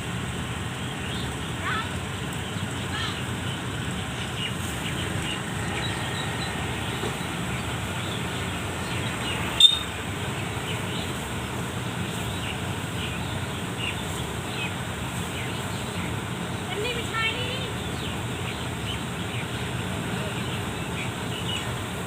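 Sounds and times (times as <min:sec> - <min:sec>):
faint birds chirping: 0:00.0 - 0:22.0
farm machine engine running: 0:00.0 - 0:22.0.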